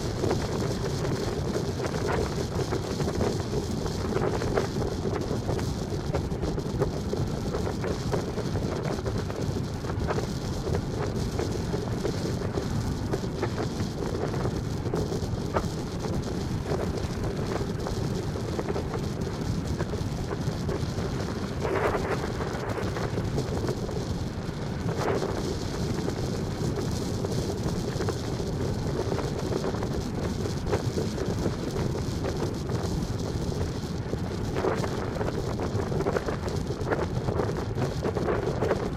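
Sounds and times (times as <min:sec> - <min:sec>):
vehicle road rumble: 0:00.0 - 0:38.9
wind buffeting microphone: 0:00.0 - 0:38.9.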